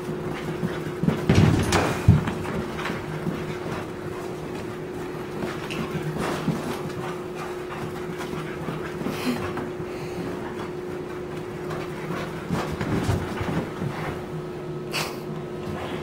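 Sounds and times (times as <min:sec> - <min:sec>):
puppy playing knocks and scuffles: 0:00.0 - 0:14.3
steady background hum: 0:00.0 - 0:16.0.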